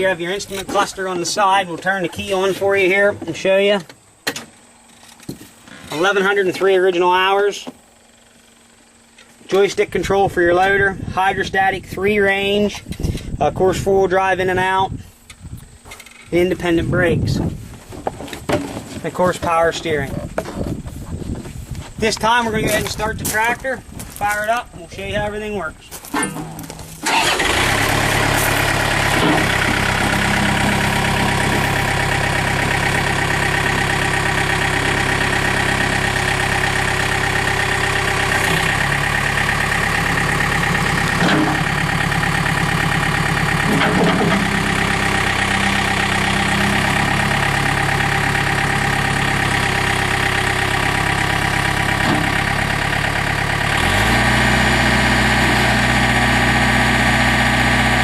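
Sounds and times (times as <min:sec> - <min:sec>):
diesel engine idling: 0:00.0 - 0:17.7, 0:19.0 - 0:58.0.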